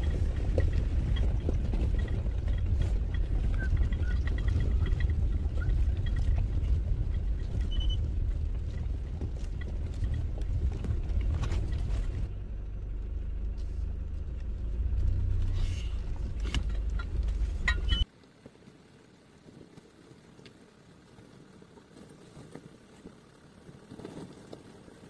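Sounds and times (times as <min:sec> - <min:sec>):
car rumbling over gravel: 0:00.0 - 0:25.0.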